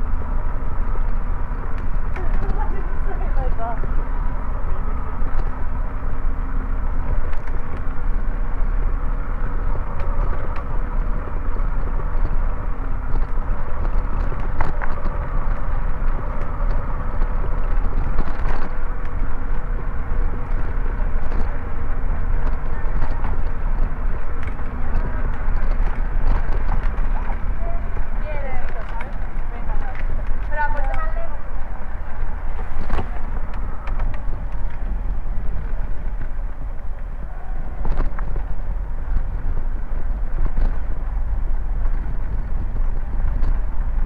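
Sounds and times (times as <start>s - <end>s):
bicycle road noise: 0.0s - 44.0s
wind on microphone: 0.0s - 44.0s.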